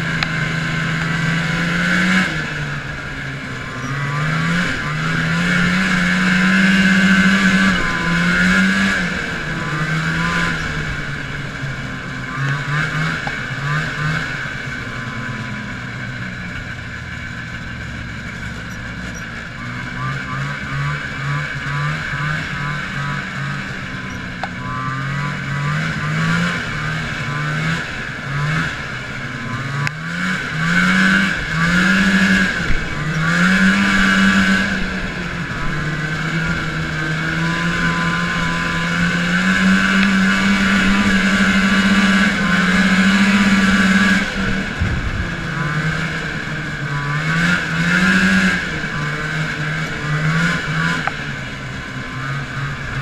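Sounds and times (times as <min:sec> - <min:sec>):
snowmobile engine running: 0:00.0 - 0:53.0.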